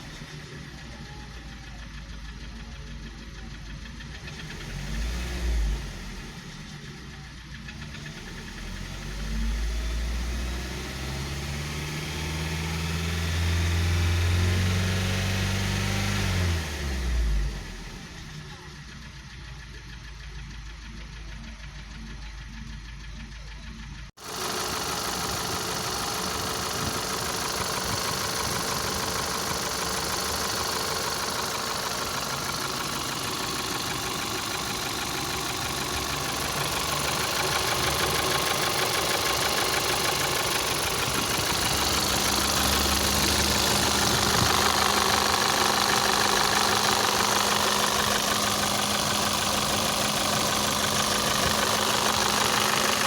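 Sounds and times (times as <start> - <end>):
car engine idling with knock: 0.0 - 10.8, 17.1 - 53.0.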